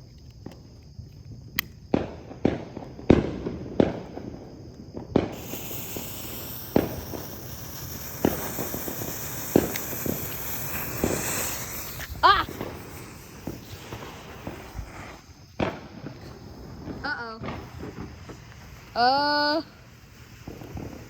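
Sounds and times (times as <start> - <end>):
firecracker pops: 0.2 - 21.0
smoke bombs hissing: 1.9 - 21.0.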